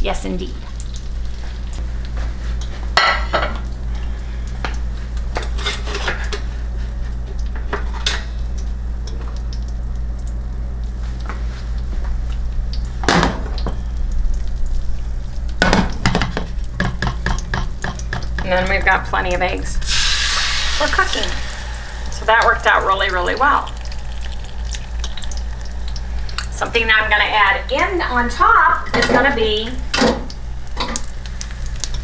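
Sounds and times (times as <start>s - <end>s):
steady low hum: 0.0s - 32.0s
grease sizzling in a frying pan: 0.1s - 32.0s.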